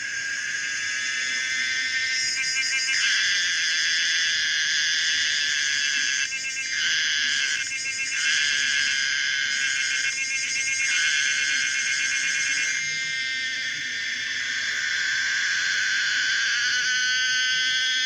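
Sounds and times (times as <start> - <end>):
cicada call buzzing: 0.0 - 18.0.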